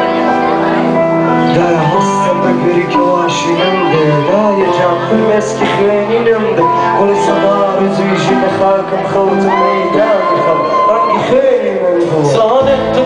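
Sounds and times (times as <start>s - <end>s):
guitar chords: 0.0s - 13.0s
man singing: 1.3s - 13.0s.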